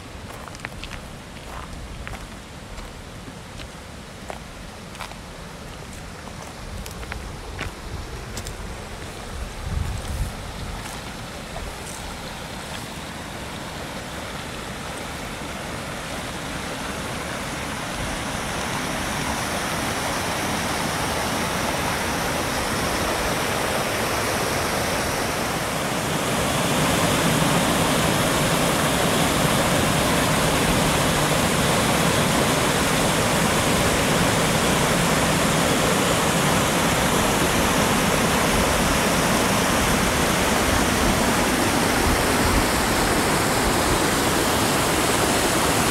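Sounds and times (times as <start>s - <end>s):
creek rushing over cascades: 0.0s - 45.9s.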